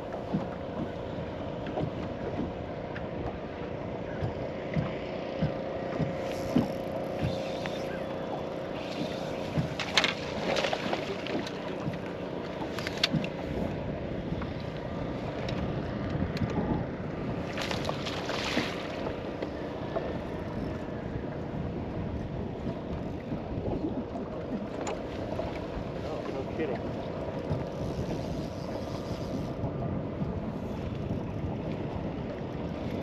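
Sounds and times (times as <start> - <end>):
water lapping around boat: 0.0 - 33.0
wind on microphone: 0.0 - 33.0.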